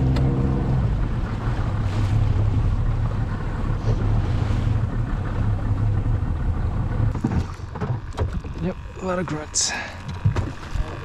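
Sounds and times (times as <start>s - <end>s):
boat motor running: 0.0s - 11.0s
water noise: 0.0s - 11.0s.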